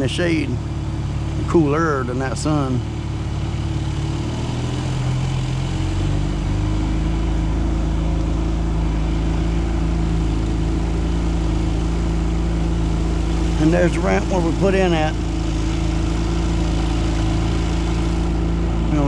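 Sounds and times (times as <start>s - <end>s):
boat outboard motor running: 0.0s - 19.0s.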